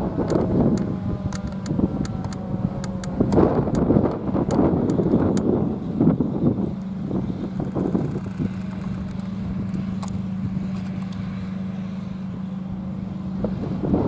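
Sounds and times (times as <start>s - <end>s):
distant sirens winding down: 0.0s - 14.0s.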